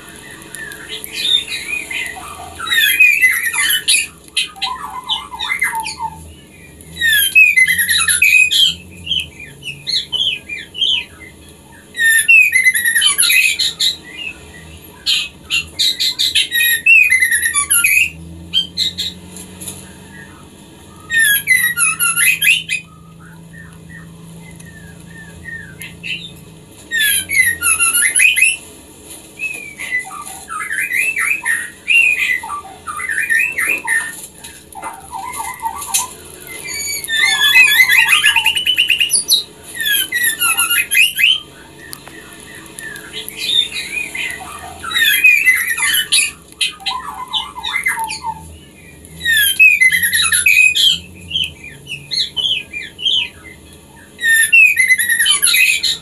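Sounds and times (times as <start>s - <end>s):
bird chattering calls: 0.0s - 28.6s, 29.4s - 56.0s.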